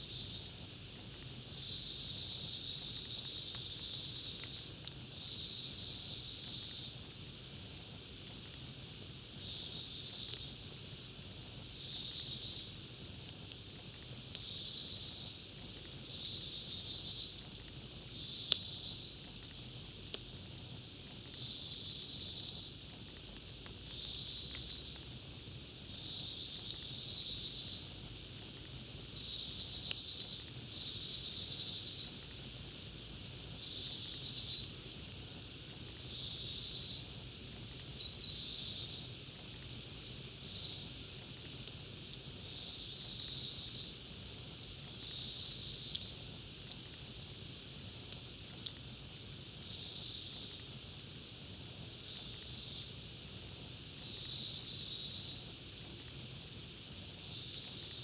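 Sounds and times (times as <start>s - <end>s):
campfire crackling and popping: 0.1s - 58.0s.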